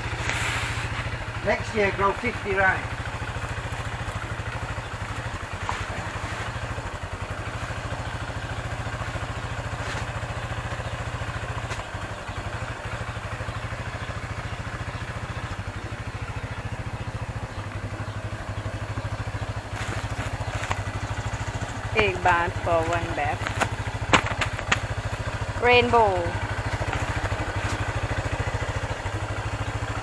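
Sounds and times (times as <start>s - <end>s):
small engine idling: 0.0s - 30.0s.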